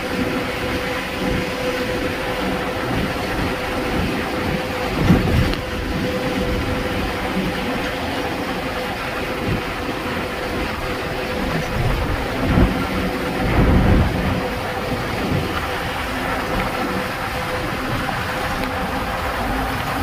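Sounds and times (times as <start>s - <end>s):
faint steady whine: 0.0s - 20.0s
vehicle engine and tyres rumbling: 0.0s - 20.0s
wind buffeting microphone: 0.0s - 20.0s.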